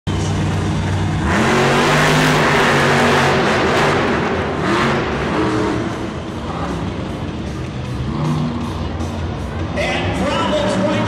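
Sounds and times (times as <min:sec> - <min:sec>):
monster truck engines revving: 0:00.1 - 0:11.0.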